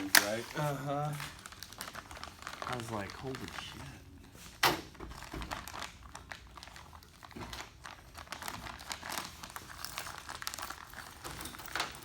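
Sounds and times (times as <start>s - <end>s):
crinkling and rustling: 0.0s - 12.0s.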